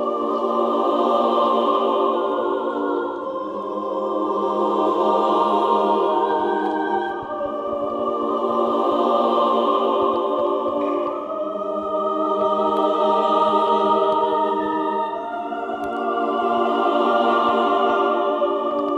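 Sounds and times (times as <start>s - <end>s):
sustained choral or organ chords: 0.0s - 18.9s.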